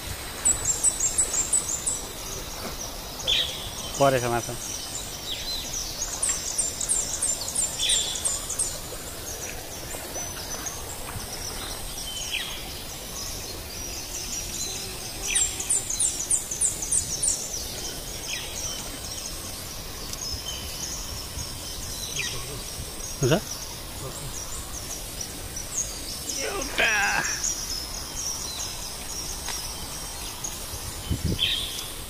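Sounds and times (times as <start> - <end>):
faint high insect-like tone: 0.0 - 32.0
steady outdoor hiss: 0.0 - 32.0.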